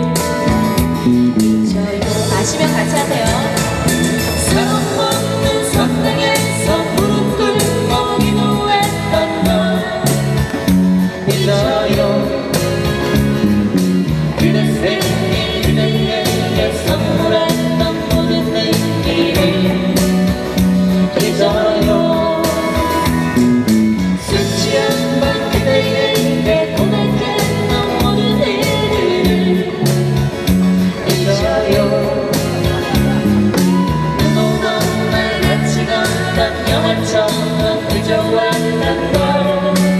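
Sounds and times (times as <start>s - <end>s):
electric guitar: 0.0s - 39.9s
person singing: 1.4s - 13.2s, 14.2s - 39.9s.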